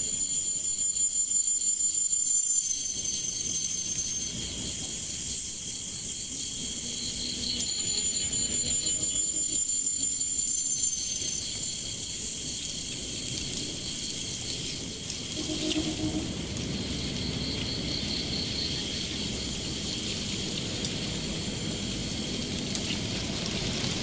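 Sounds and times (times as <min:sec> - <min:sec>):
thin high whine: 0:00.0 - 0:23.3
insects pulsing trills: 0:00.0 - 0:24.0.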